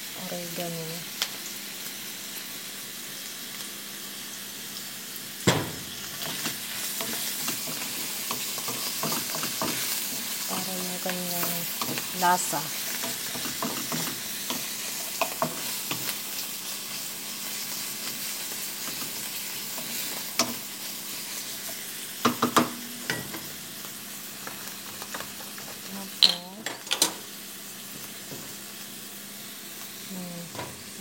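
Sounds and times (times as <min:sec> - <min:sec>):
mushrooms sizzling in a frying pan: 0:00.0 - 0:31.0.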